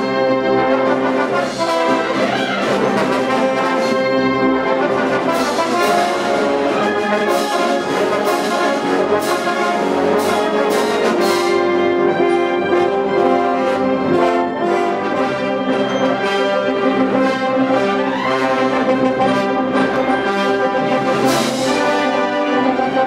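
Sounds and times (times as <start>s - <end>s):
wind band playing: 0.0s - 23.0s.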